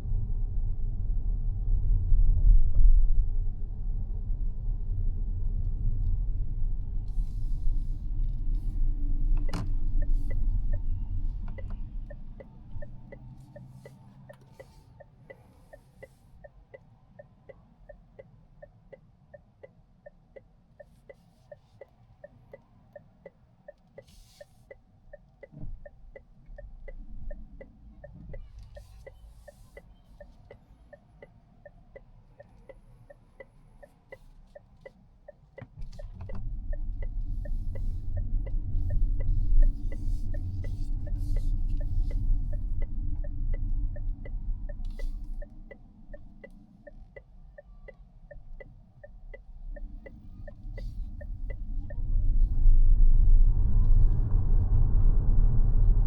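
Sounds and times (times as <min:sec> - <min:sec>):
low road rumble: 0:00.0 - 0:21.1, 0:22.2 - 0:56.0
turn signal ticking: 0:06.0 - 0:54.4.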